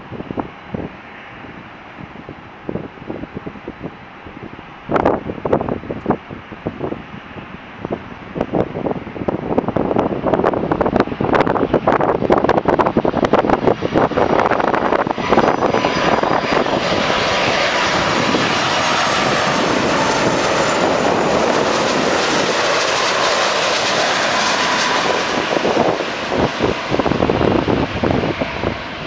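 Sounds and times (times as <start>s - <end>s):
jet airliner passing overhead: 0.0s - 29.0s
wind buffeting microphone: 0.0s - 29.0s.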